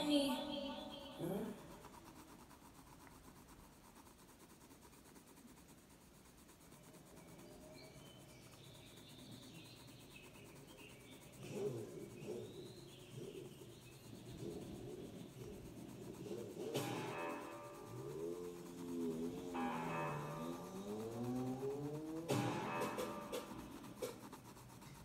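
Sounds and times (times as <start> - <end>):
pencil rubbing on paper: 0.0 - 25.0.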